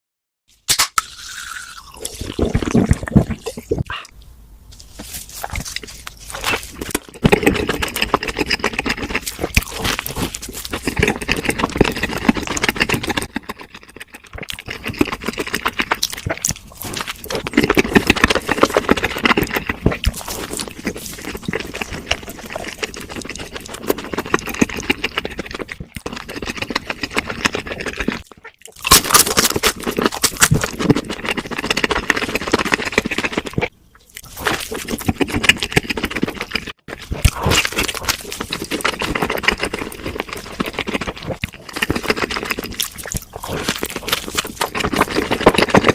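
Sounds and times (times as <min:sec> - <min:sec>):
wet mouth noises: 0:00.7 - 0:45.9
chewing and crunching: 0:01.0 - 0:45.9.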